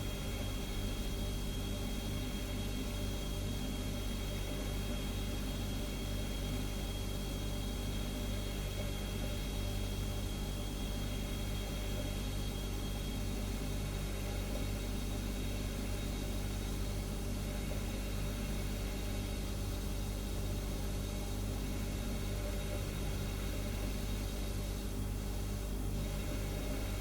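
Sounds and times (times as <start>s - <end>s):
refrigerator humming: 0.0s - 27.0s.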